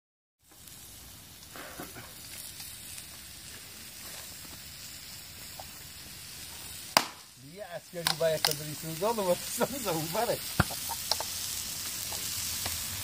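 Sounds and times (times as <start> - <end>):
food sizzling on a stone pan: 0.4 - 13.0.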